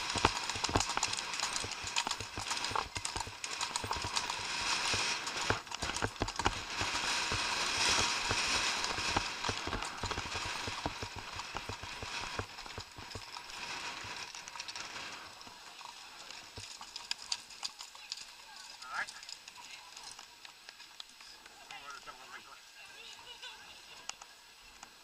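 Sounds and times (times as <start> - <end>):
hooves on gravel: 0.0 - 22.0.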